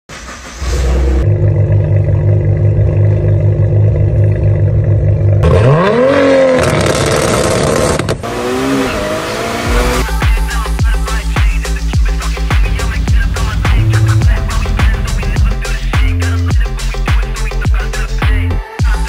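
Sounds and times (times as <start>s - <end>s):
car engine idling and revving: 0.1s - 19.0s.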